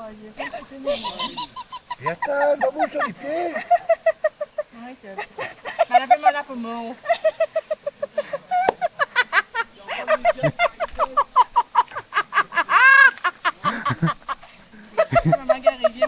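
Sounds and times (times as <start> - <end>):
people laughing and squealing: 0.0 - 16.0.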